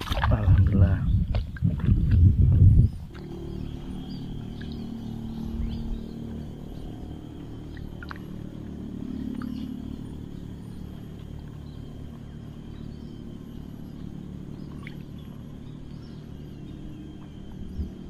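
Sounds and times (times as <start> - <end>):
low motor hum: 0.0 - 18.0
faint bird chirps: 2.8 - 18.0.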